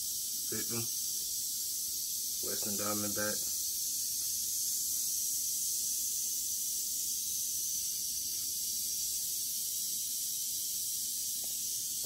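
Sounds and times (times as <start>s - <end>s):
rattlesnake rattle buzzing: 0.0s - 12.0s.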